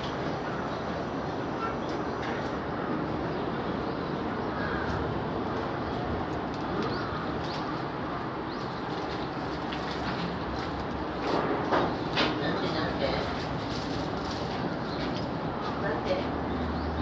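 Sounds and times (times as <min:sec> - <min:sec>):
outdoor background din: 0:00.0 - 0:17.0.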